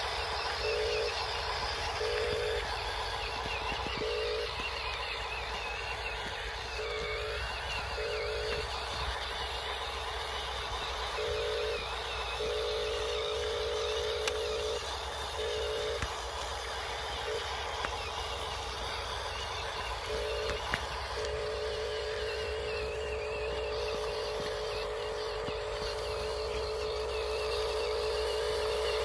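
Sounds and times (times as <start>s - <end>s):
toy truck electric motor whining: 0.0s - 29.0s.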